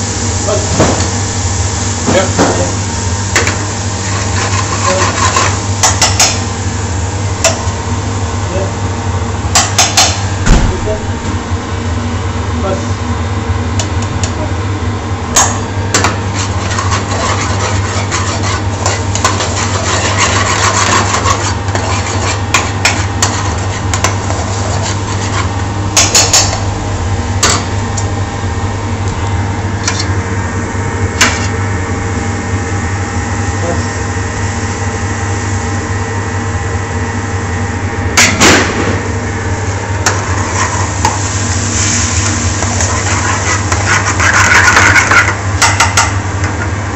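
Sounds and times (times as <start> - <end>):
low kitchen hum: 0.0 - 46.9.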